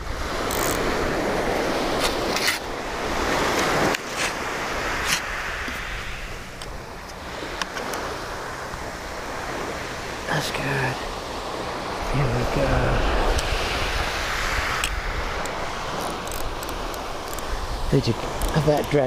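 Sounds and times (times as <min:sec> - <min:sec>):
surf on rocky shore: 0:00.0 - 0:19.0.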